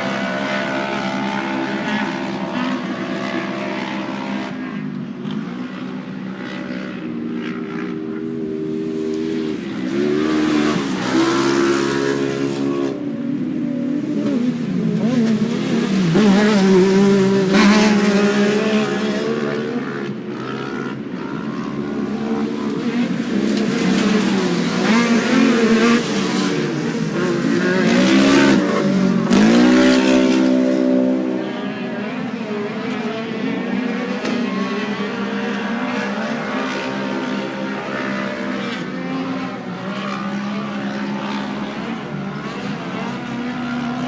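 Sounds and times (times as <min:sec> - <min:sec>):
race engines revving: 0:00.0 - 0:44.0.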